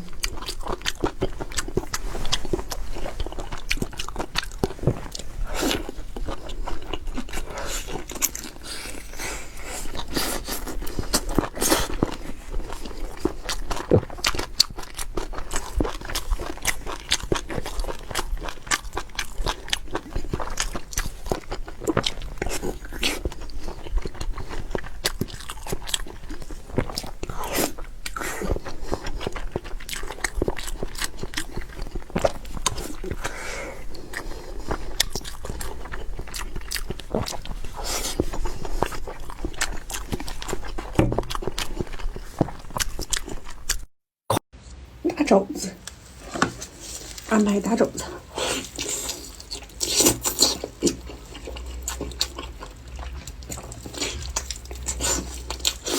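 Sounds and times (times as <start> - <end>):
chewing and biting meat: 0.0 - 43.9, 48.0 - 55.9.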